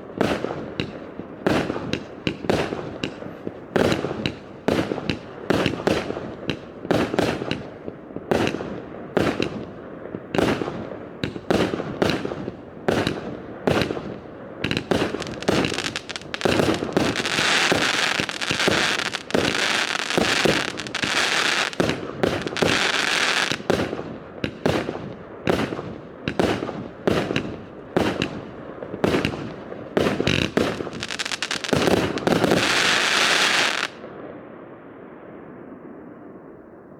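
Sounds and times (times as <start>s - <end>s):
firework shots and bursts: 0.0s - 34.0s.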